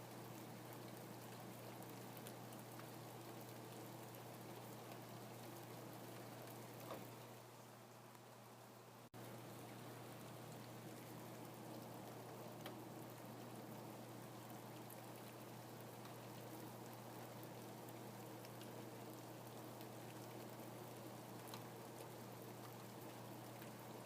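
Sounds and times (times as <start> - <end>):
faint rain: 0.0 - 24.0
raindrops ticking: 0.1 - 7.2, 9.2 - 24.0.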